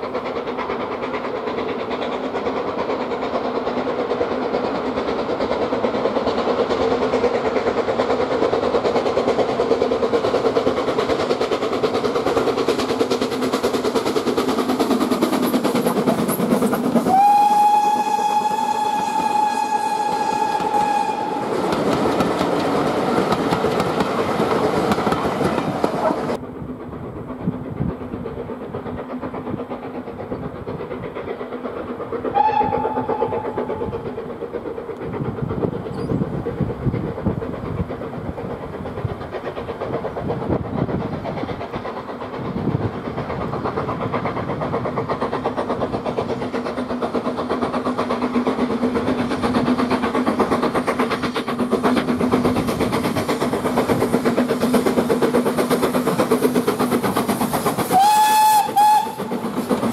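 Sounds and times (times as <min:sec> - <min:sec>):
steam locomotive chugging: 0:00.0 - 0:59.9.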